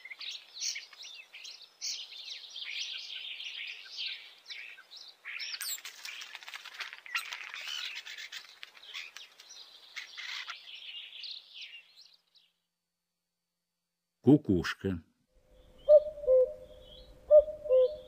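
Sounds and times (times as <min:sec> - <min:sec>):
songbirds chirping and twittering: 0:00.0 - 0:12.8, 0:15.4 - 0:18.0.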